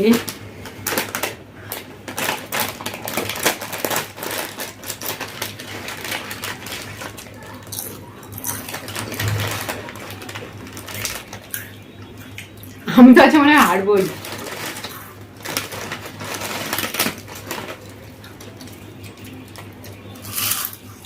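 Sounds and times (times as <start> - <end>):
potato chips crunching: 0.1 - 12.8, 14.0 - 21.0.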